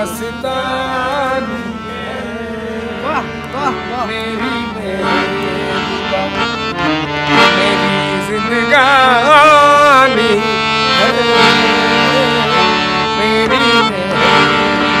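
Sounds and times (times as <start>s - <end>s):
harmonium playing sustained chords: 0.0s - 15.0s.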